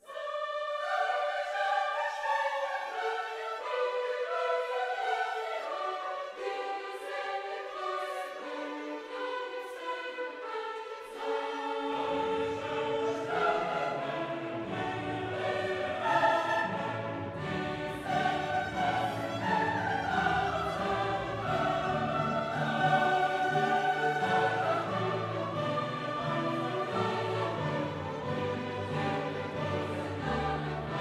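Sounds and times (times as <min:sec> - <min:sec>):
orchestral music with choir: 0:00.0 - 0:31.0.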